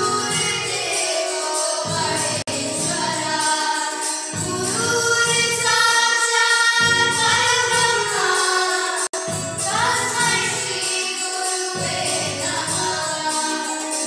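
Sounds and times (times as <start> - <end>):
children singing: 0.0 - 14.0
electronic keyboard accompaniment: 0.0 - 14.0.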